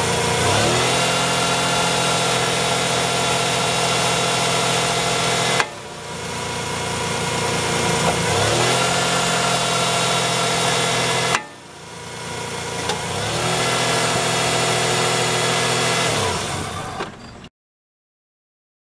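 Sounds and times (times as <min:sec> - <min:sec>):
car engine running: 0:00.0 - 0:17.2.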